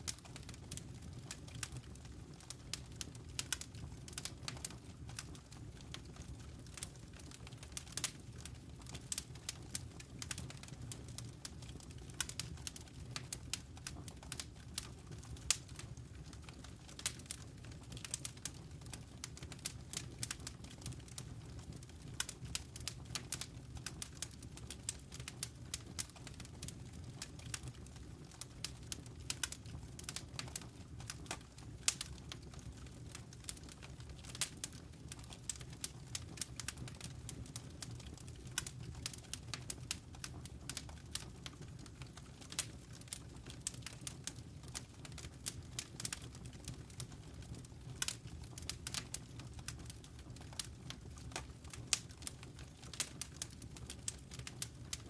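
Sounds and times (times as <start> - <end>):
low rumble of fire: 0.0 - 55.0
wood fire crackling: 0.0 - 55.0.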